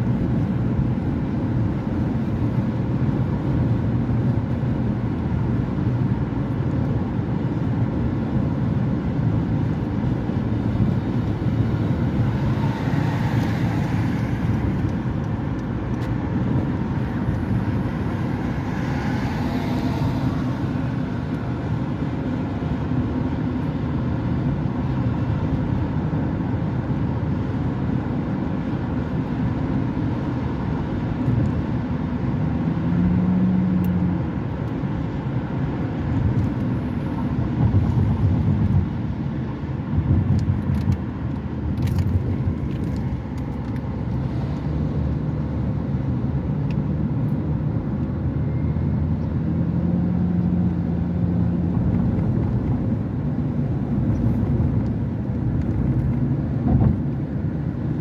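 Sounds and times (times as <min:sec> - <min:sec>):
low rumble of vehicles: 0:00.0 - 0:58.0.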